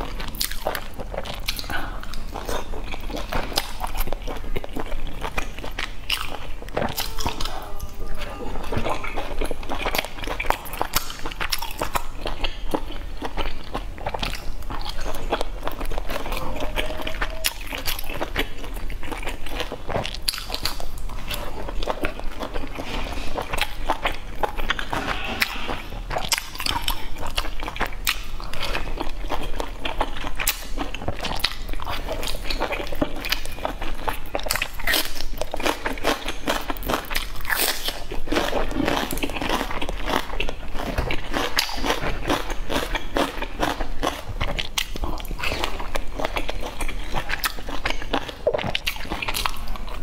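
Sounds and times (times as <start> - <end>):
wet chewing: 0.0 - 50.0.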